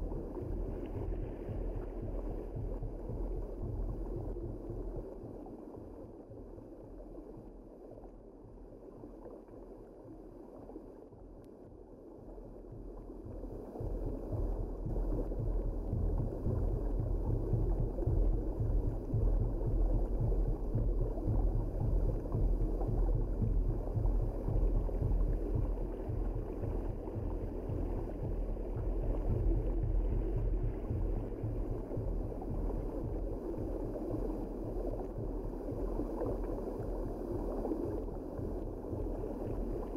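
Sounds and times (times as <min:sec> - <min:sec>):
low rumble: 0:00.0 - 0:39.9
muffled underwater rushing water: 0:00.0 - 0:39.9.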